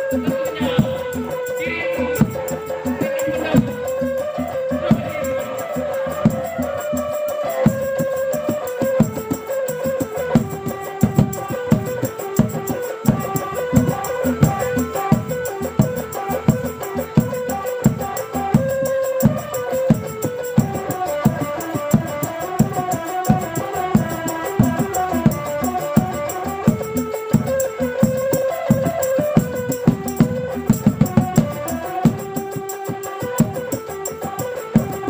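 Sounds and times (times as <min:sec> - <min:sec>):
steady drum beat: 0:00.0 - 0:35.0.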